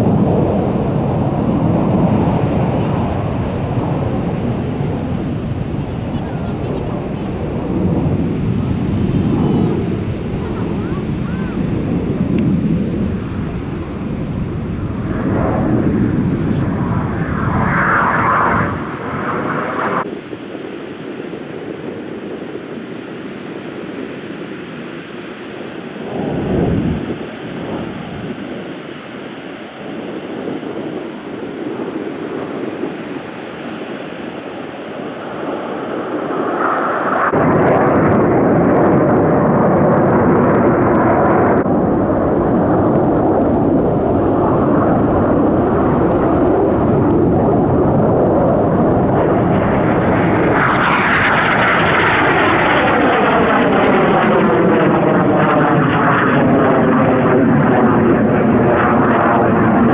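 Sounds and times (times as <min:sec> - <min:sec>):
jet aircraft roaring overhead: 0:00.0 - 0:59.9.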